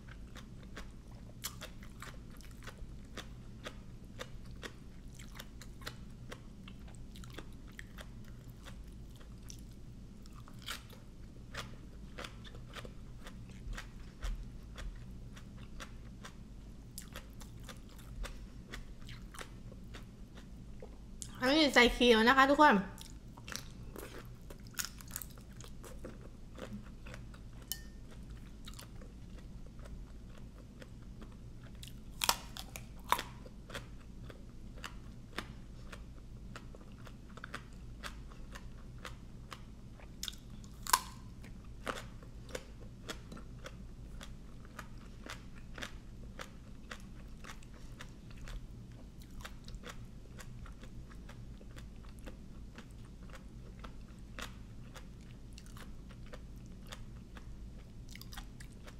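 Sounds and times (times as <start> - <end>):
person chewing crunchy food: 0.0 - 21.4, 23.0 - 58.9
faint low hum: 0.0 - 58.9.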